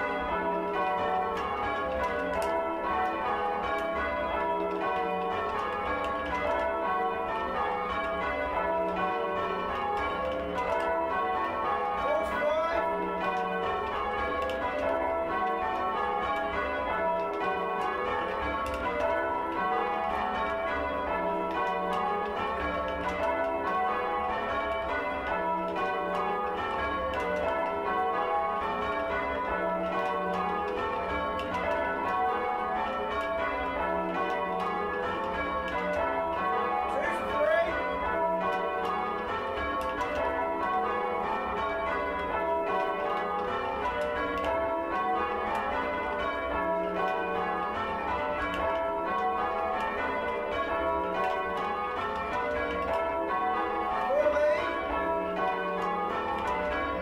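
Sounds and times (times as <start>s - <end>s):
church bells change-ringing: 0.0s - 57.0s.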